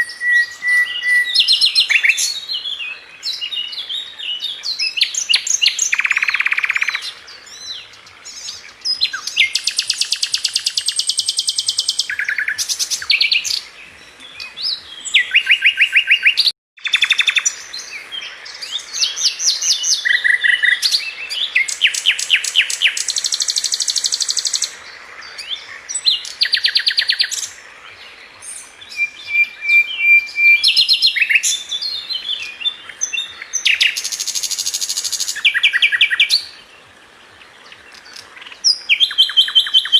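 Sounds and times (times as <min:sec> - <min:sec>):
bird song with trills: 0:00.0 - 0:39.9.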